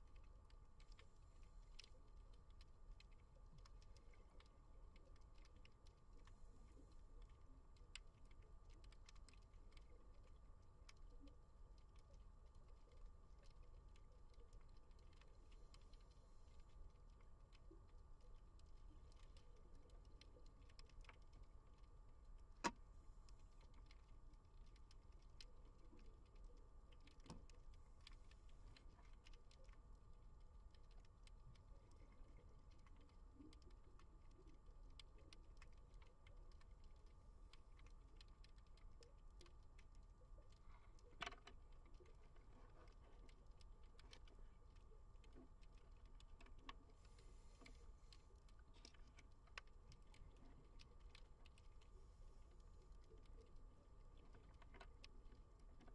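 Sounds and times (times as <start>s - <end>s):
underwater clicks and ticks: 0.0s - 55.9s.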